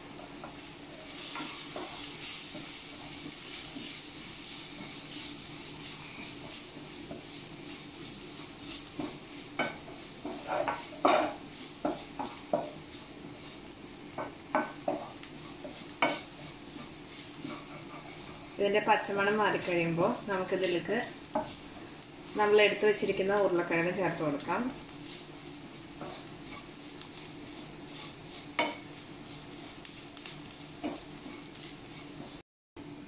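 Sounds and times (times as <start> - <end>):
food sizzling in oil: 0.0 - 33.0
spatula scraping and knocking pan: 0.2 - 32.4.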